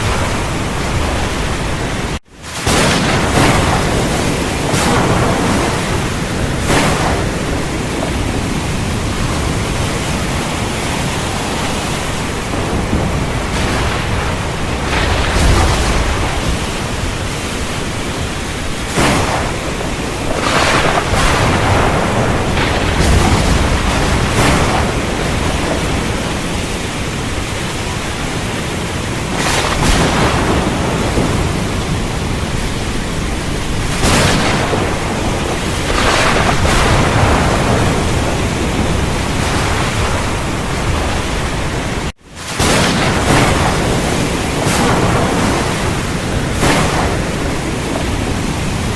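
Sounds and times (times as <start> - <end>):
heavy rain: 0.0 - 48.9
thunder cracks and rumbles: 0.0 - 48.9.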